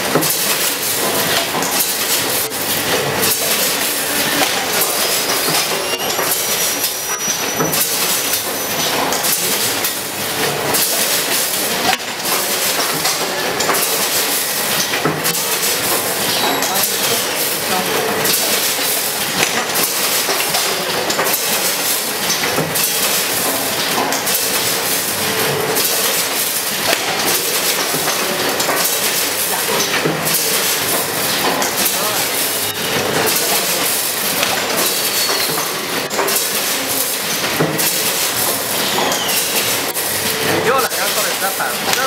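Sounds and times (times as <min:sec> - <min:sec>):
packaging machine clattering: 0:00.0 - 0:42.0.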